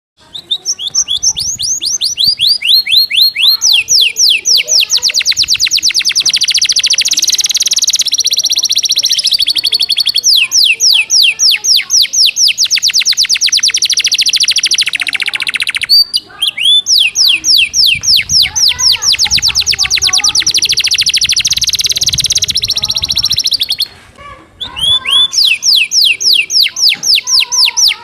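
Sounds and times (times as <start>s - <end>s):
canary singing whistled notes: 0.2s - 23.9s, 24.6s - 28.0s.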